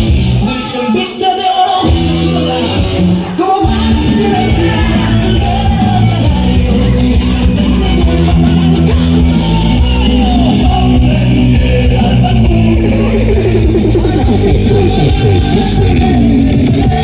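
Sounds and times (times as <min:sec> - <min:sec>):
dance music with guitar and bass: 0:00.0 - 0:17.0.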